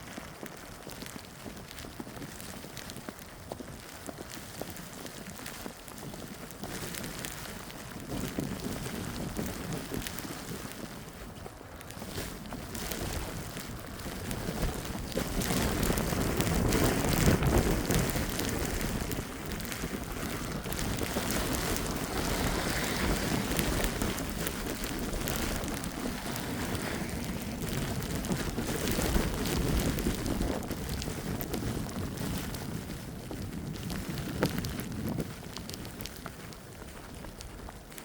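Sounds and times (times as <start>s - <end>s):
footsteps crunching through snow: 0.0s - 38.0s
gusting wind rumbling: 0.0s - 38.0s.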